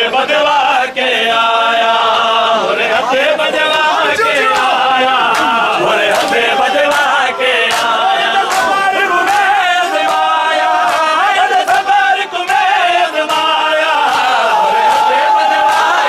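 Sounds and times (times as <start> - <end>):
men chanting in unison: 0.0 - 16.0
rhythmic chest-beating slaps: 0.2 - 16.0.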